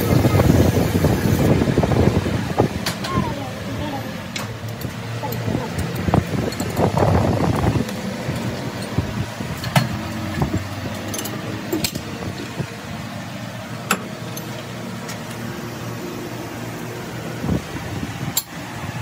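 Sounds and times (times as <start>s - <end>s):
workshop machine hum: 0.0s - 19.0s.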